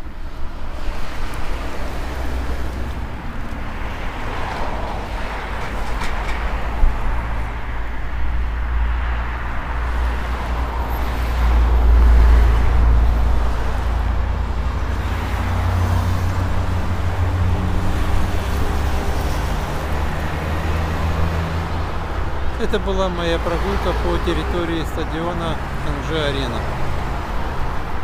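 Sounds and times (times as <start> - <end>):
vehicle rumble passing: 0.0 - 28.0
steady engine hum: 1.5 - 28.0.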